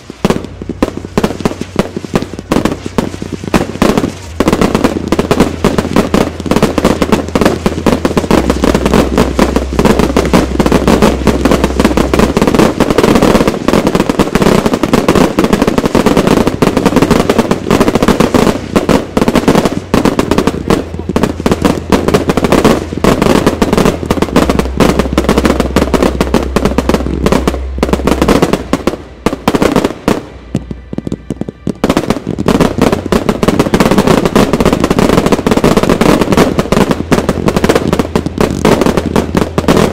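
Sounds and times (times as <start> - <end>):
fireworks bursts and crackling: 0.0 - 39.9.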